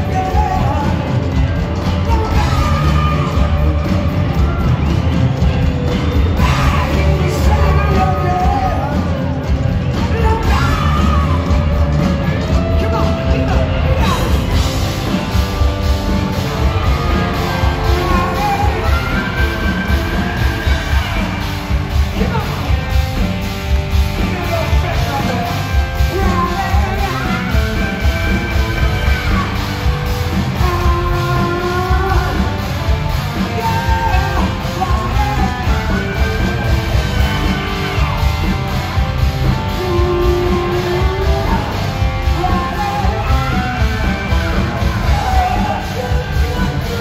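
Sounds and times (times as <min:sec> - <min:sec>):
man singing lead vocals: 0:00.0 - 0:04.7, 0:06.2 - 0:23.3, 0:24.1 - 0:38.2, 0:39.5 - 0:47.0
bass guitar: 0:00.0 - 0:47.0
drums: 0:00.0 - 0:47.0
electric guitars: 0:00.0 - 0:47.0.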